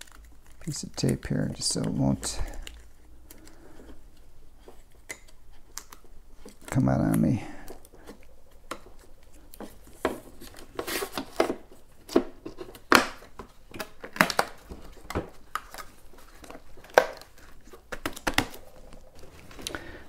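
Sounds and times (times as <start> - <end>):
plastic crinkling: 0.0 - 20.0.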